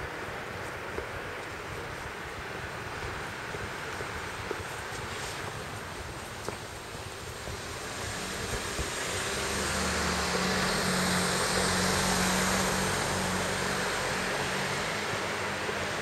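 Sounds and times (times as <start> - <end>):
train passing overhead: 0.0 - 16.0.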